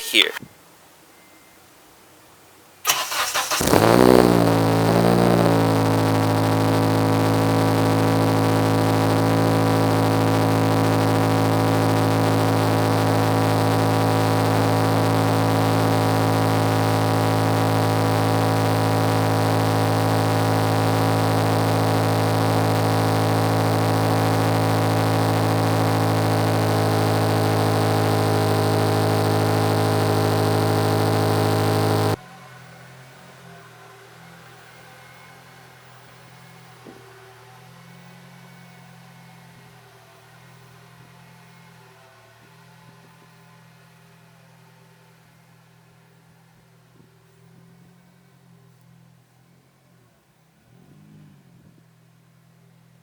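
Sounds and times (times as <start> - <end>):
car engine revving and idling: 2.9 - 53.0.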